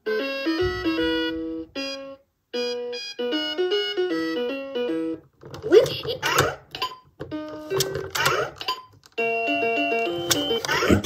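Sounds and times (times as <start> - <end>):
toy playing electronic tune: 0.0 - 5.2, 6.8 - 11.0.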